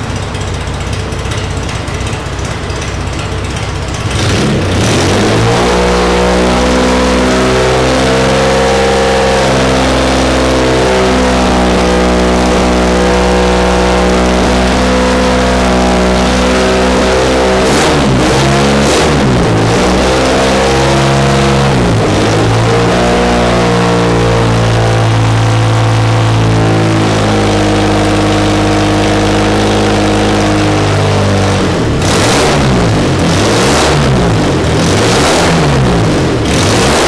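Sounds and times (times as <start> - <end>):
car engine revving on test bench: 4.1 - 37.0.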